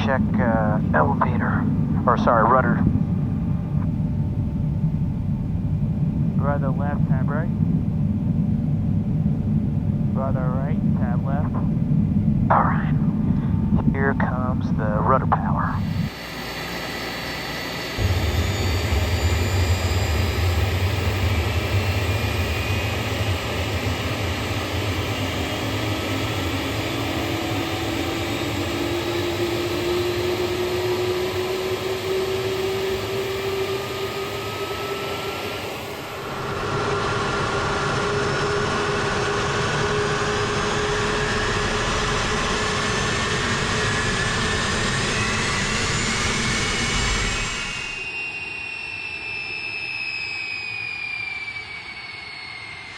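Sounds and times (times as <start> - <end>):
engine whines rising: 0.0 - 52.9
jet engines roaring: 0.0 - 52.9.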